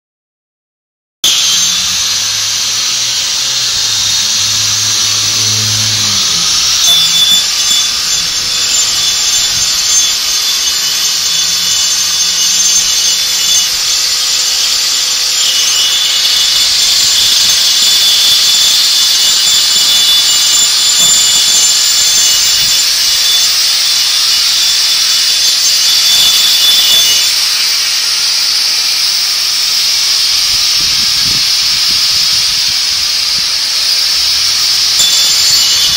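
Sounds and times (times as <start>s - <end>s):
power tool hissing and whining: 1.2s - 35.9s.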